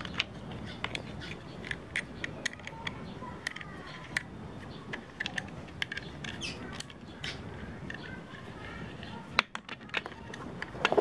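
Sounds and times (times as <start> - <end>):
small clicks and taps: 0.0 - 8.1, 9.0 - 11.0.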